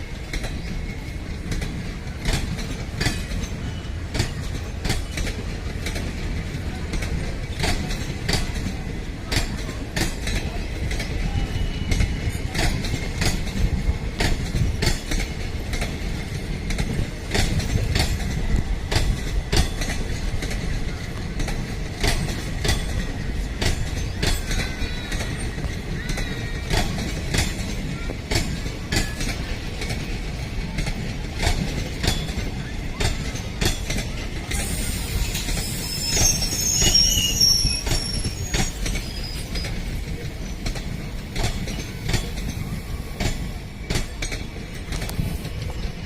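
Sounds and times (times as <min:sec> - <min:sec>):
train rumbling past: 0:00.0 - 0:46.0
train wheels clicking over rail joints: 0:00.0 - 0:46.0.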